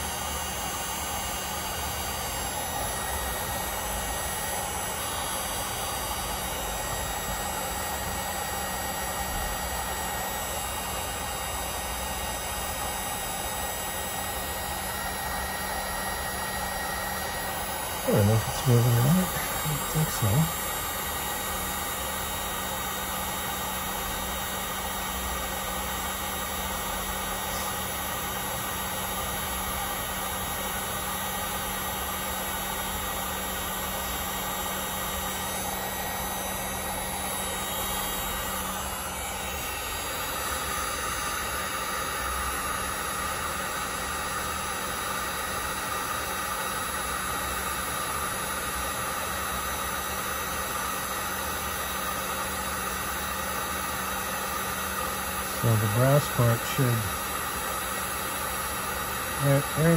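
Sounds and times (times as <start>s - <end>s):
heat gun hissing and whining: 0.0s - 59.9s.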